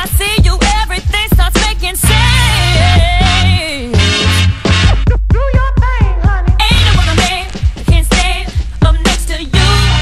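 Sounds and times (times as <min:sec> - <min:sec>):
music with bass and beat: 0:00.0 - 0:10.0.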